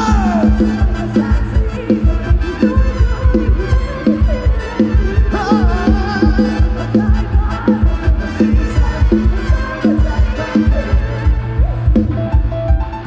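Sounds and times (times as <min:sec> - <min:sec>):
band music over loudspeakers: 0:00.0 - 0:13.0
fast drum beat: 0:00.0 - 0:13.0.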